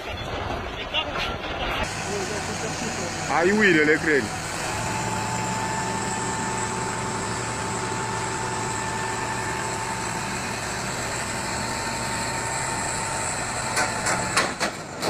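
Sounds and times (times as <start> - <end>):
constant whine: 0.0 - 15.0
truck engine running: 0.0 - 15.0.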